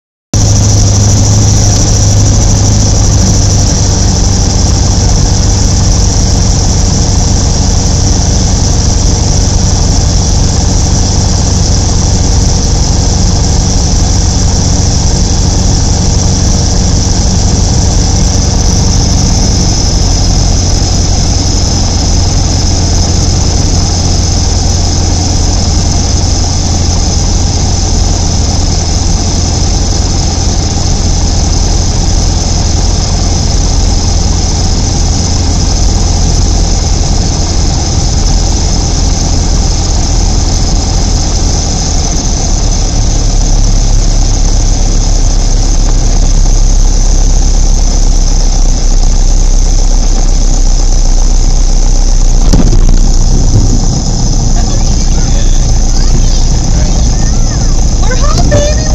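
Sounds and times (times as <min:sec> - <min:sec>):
propeller aircraft engine droning: 0:00.3 - 0:58.9
steady high whine: 0:00.4 - 0:58.9.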